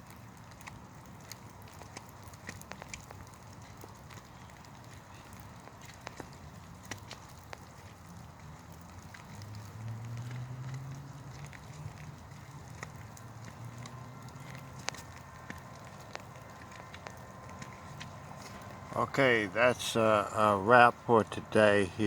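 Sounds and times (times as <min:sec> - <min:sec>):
light clicks and crackles: 0:00.0 - 0:19.5.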